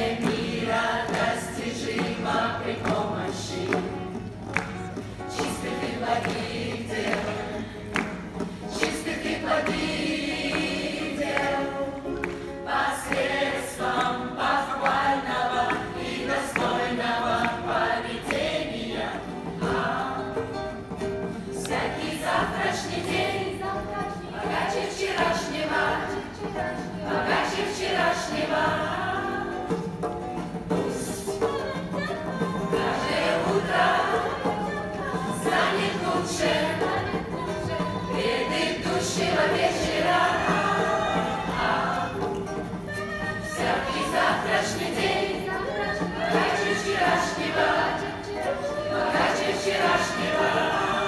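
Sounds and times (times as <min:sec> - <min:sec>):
group singing in chorus: 0:00.0 - 0:51.0.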